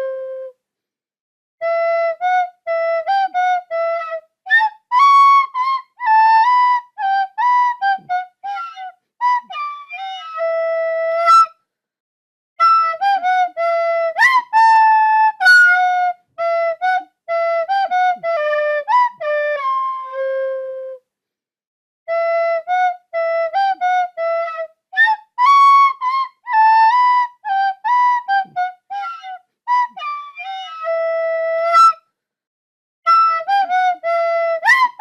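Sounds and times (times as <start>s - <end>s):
flute-like wind instrument melody: 0.0s - 0.6s, 1.6s - 11.6s, 12.6s - 21.1s, 22.1s - 32.2s, 33.1s - 35.0s.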